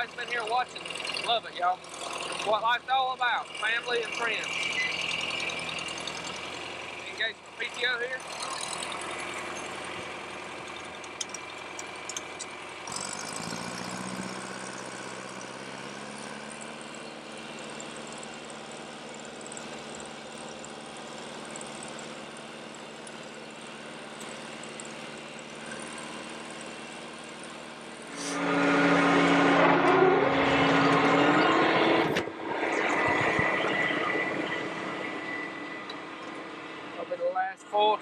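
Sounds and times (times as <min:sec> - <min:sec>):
loud engine starting: 0:00.0 - 0:37.1
tractor engine with rotary cutter: 0:00.0 - 0:38.0.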